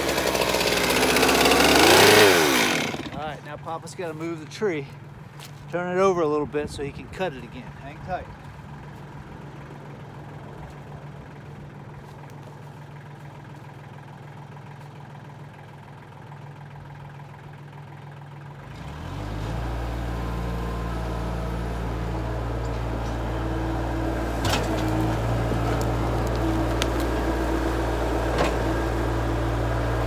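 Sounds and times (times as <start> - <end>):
tractor engine idling and revving: 0.0 - 30.0.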